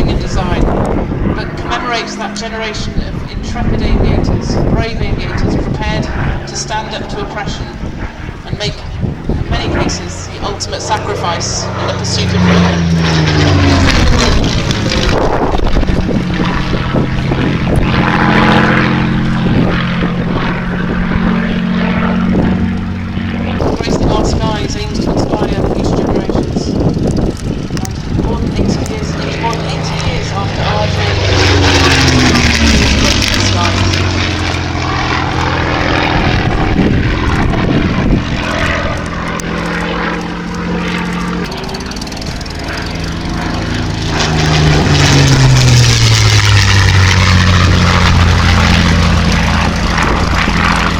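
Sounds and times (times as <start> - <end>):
propeller aircraft engine drone: 0.0 - 50.9.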